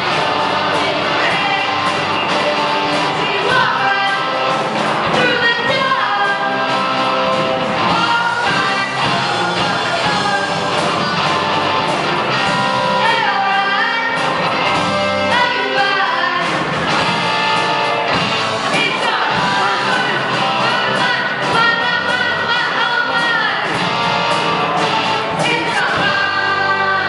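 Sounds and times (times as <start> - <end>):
person singing: 0.0 - 11.3, 12.4 - 14.6, 15.2 - 16.8, 18.7 - 23.9, 25.4 - 27.0
rock band playing: 0.0 - 27.0.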